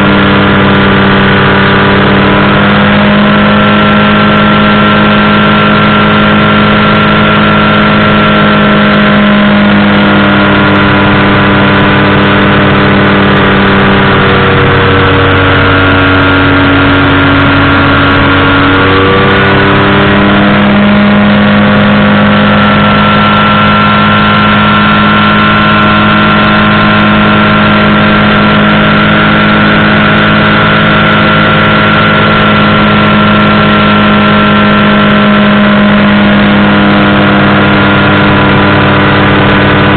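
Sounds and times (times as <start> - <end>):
powered parachute engine running: 0.0 - 39.9.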